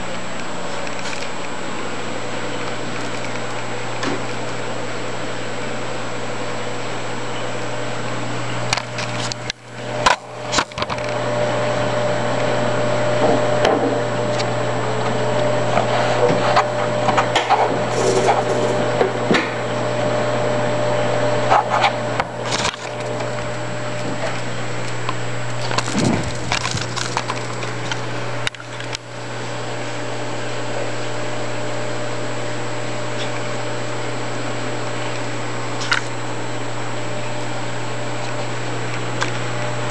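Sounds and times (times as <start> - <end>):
aquarium pumps humming: 0.0 - 39.9.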